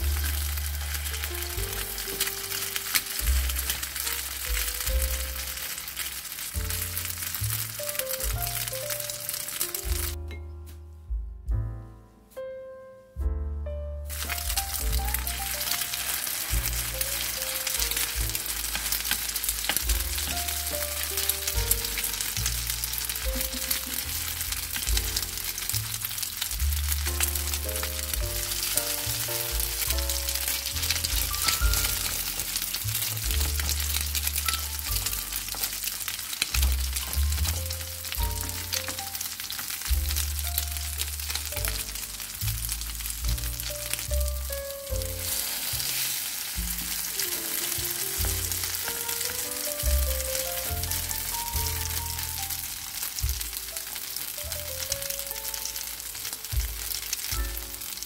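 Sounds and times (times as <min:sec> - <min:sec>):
patties sizzling in oil: 0:00.0 - 0:10.2, 0:14.1 - 0:58.0
background music with bass line: 0:00.0 - 0:58.0.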